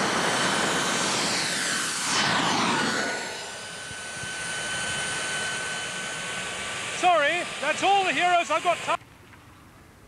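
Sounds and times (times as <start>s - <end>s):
small jet engine whine: 0.0s - 10.0s.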